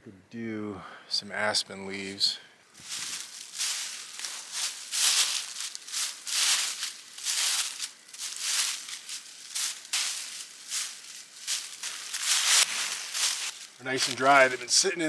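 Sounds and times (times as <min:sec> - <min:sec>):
dry leaves crushed by hand: 0:02.8 - 0:14.9.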